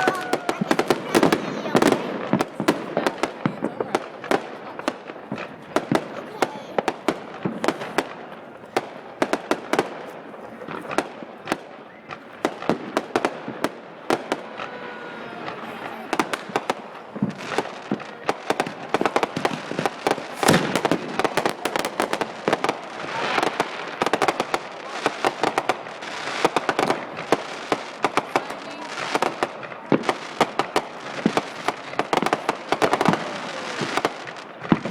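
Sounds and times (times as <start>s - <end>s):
fireworks crackling: 0.0s - 34.9s
fireworks popping and banging: 0.0s - 34.9s.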